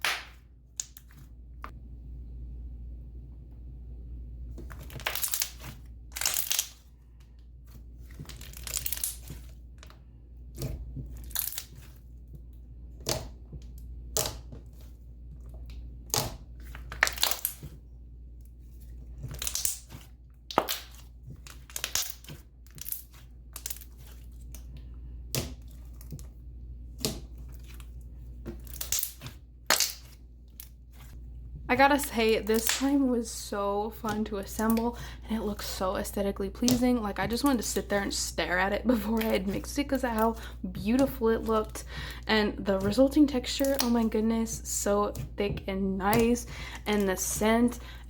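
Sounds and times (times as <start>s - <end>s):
slime crackling and squishing: 4.6s - 47.9s.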